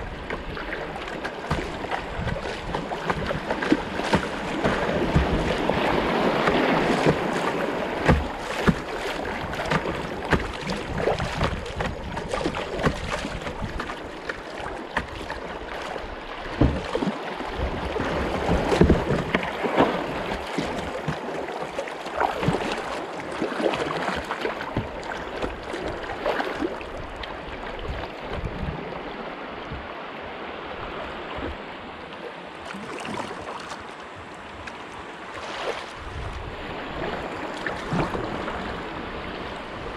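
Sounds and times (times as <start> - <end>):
paddle splashes and knocks: 0.0 - 39.9
river water rushing and splashing: 0.0 - 39.9.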